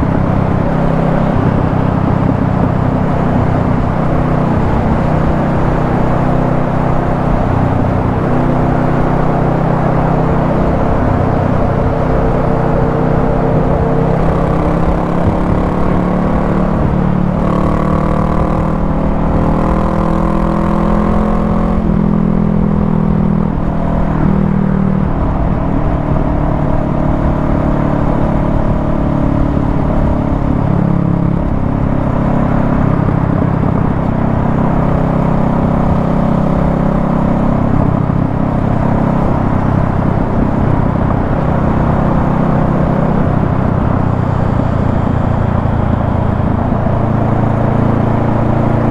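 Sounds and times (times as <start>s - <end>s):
motorcycle engine accelerating: 0.0s - 48.9s
wind and road noise: 0.0s - 48.9s.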